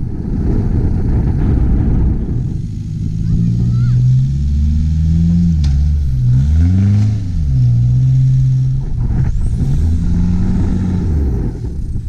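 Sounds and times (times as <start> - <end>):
engine revving hard: 2.0 - 12.0.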